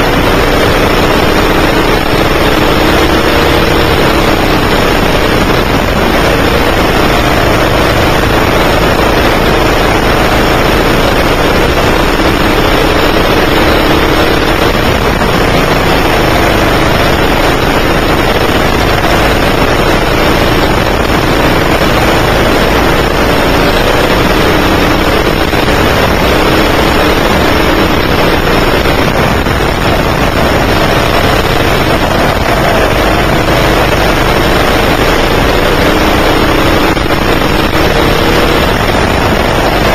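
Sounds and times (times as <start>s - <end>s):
go-kart engine revving: 0.0s - 39.9s
loud steady rush: 0.0s - 39.9s.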